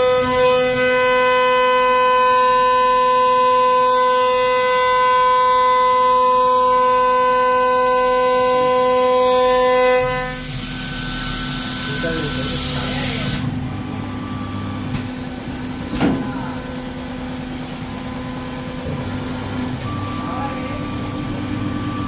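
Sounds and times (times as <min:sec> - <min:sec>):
low machine hum: 0:00.0 - 0:22.0
router spindle high-pitched whine: 0:00.0 - 0:22.0.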